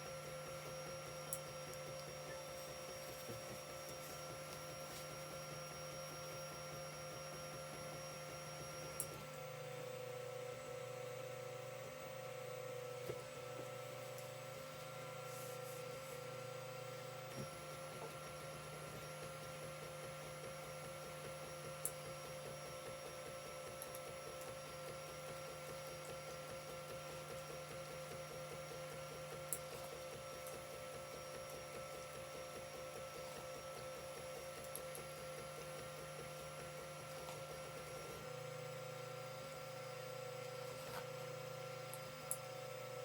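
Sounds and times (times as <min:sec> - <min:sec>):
printer motor and fan whine: 0:00.0 - 0:43.0.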